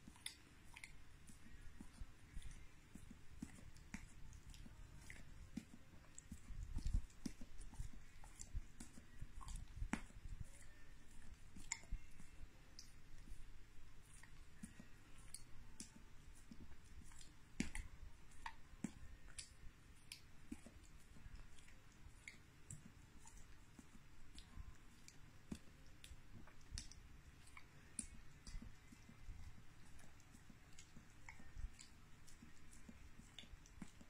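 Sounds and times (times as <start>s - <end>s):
dog licking wet smacks: 0.0s - 34.0s.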